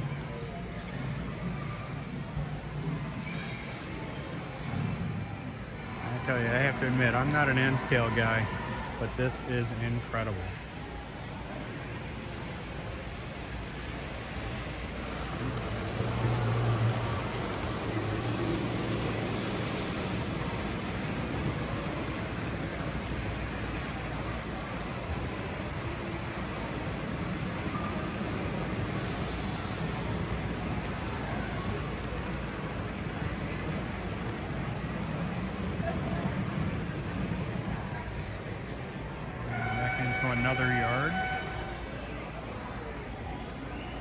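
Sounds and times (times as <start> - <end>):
exhibition hall rumble: 0.0 - 43.8.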